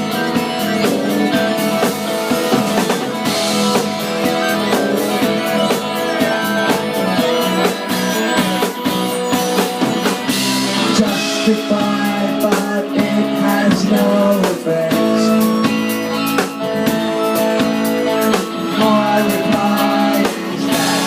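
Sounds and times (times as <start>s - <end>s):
drum kit: 0.0s - 21.0s
guitar: 0.0s - 21.0s.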